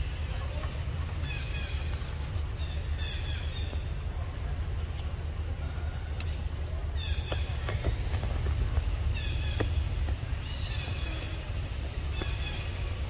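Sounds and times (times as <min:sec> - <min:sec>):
high insect drone: 0:00.0 - 0:13.0
steady low rumble: 0:00.0 - 0:13.0.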